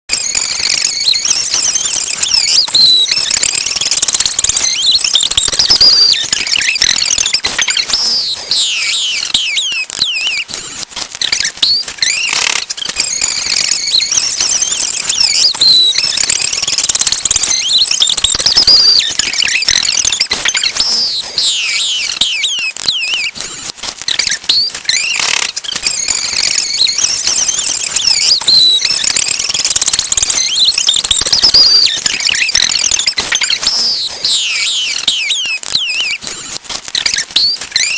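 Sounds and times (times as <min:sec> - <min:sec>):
clicks and crackle: 0:00.1 - 0:37.9
high-pitched squeaky voice: 0:00.1 - 0:37.9.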